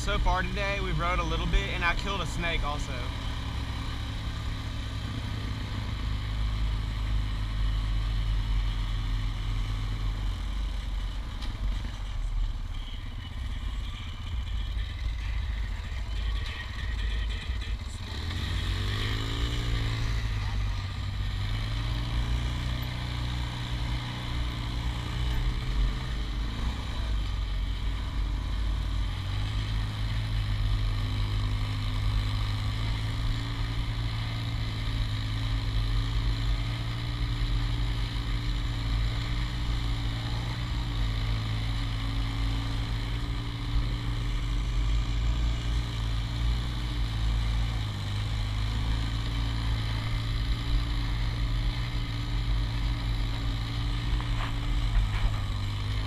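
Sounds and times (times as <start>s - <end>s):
atv engine running at low speed: 0.0s - 56.0s.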